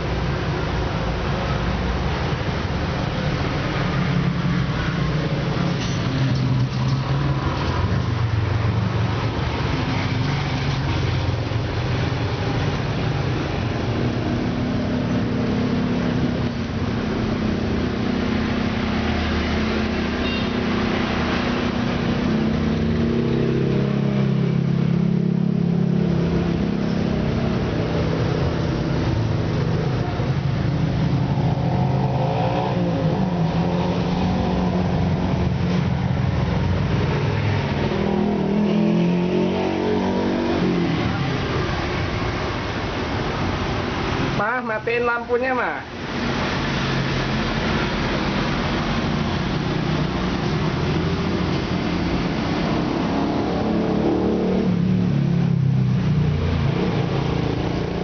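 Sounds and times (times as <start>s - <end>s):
traffic rumble: 0.0s - 58.0s
vehicle engines running: 0.0s - 58.0s.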